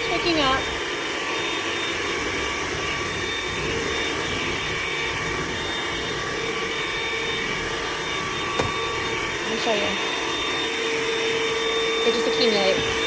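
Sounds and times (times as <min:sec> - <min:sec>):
stick vacuum whirring: 0:00.0 - 0:13.0.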